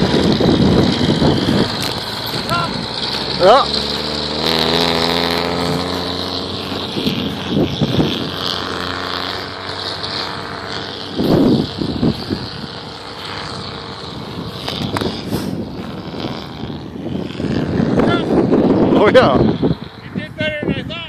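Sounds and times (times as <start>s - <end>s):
vehicle engine running: 0.0s - 21.0s
wind buffeting microphone: 0.0s - 21.0s.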